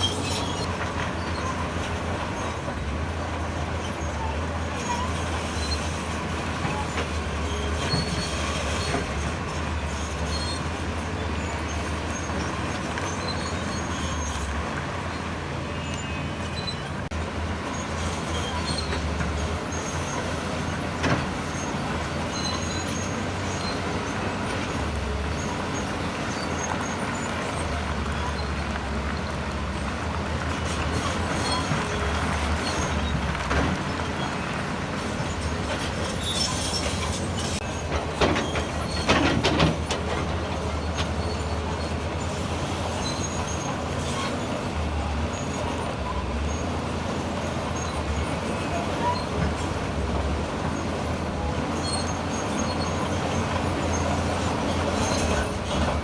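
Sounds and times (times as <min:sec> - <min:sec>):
crawler tracks squeaking and clanking: 0:00.0 - 0:56.0.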